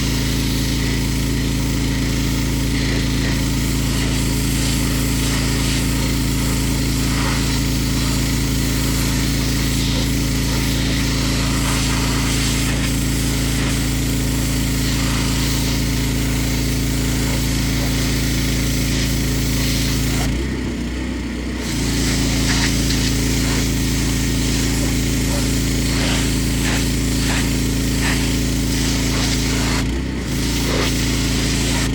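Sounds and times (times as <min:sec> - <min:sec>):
water spray hissing: 0:00.0 - 0:20.3, 0:21.6 - 0:31.9
pressure washer engine humming: 0:00.0 - 0:31.9.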